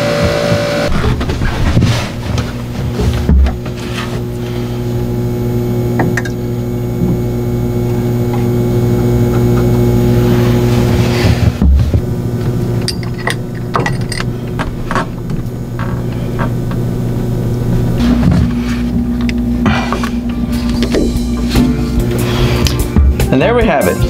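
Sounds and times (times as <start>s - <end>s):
low machinery hum: 0.0s - 24.0s.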